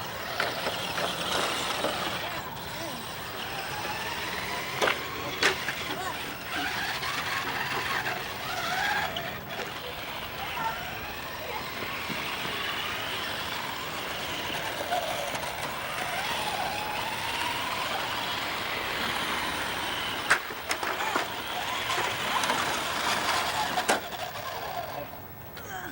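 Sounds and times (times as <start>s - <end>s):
toy car electric motors whining: 0.0s - 25.9s.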